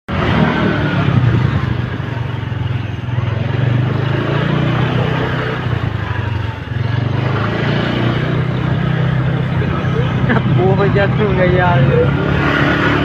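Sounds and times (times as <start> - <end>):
vehicle engine running: 0.1 - 13.0.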